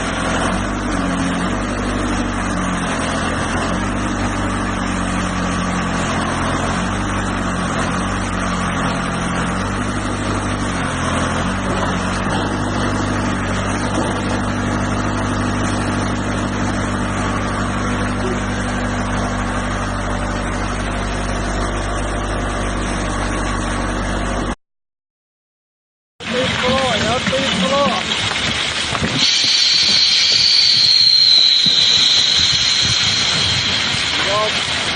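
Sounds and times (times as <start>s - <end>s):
heavy equipment engine running: 0.0s - 24.6s, 26.2s - 34.9s.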